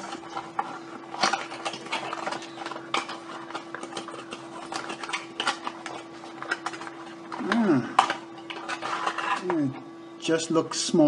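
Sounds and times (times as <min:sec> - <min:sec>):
packaging rustling and clicking: 0:00.0 - 0:09.6
steady low hum: 0:00.0 - 0:11.0.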